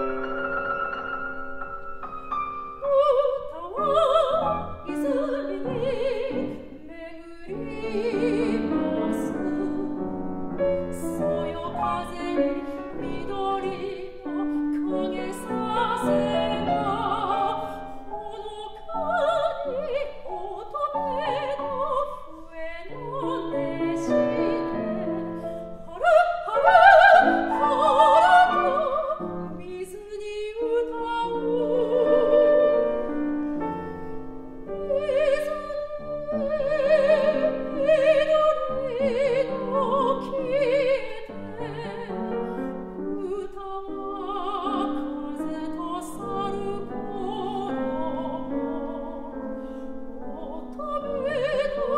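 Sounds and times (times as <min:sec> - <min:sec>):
grand piano: 0:00.0 - 0:51.9
woman singing operatically: 0:02.8 - 0:10.0, 0:10.9 - 0:32.7, 0:34.8 - 0:42.5, 0:43.1 - 0:49.4, 0:50.2 - 0:51.9.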